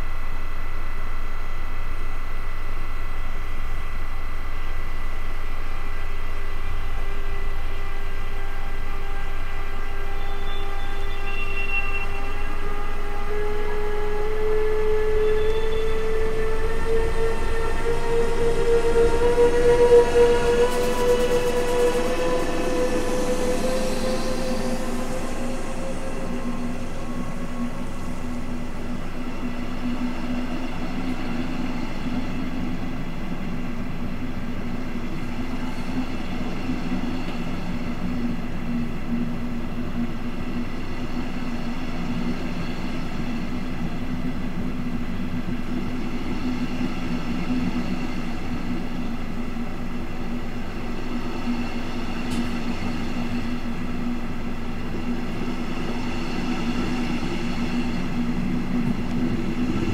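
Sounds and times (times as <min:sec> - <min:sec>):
constant low hum: 0:00.0 - 0:59.9
train rumbling past: 0:06.7 - 0:59.9.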